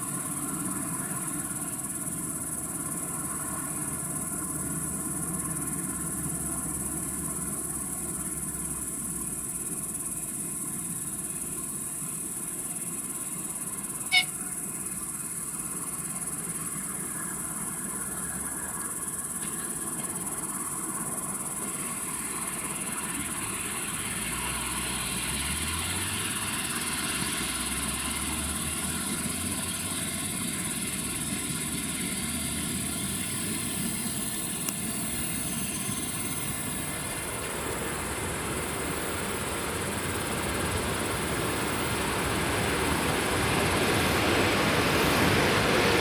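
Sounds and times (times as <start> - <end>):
train rumbling on rails: 0.0 - 46.0.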